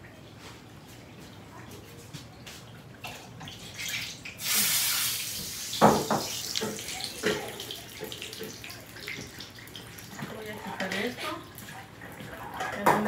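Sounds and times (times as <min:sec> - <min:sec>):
water running and splashing: 0:02.2 - 0:13.0.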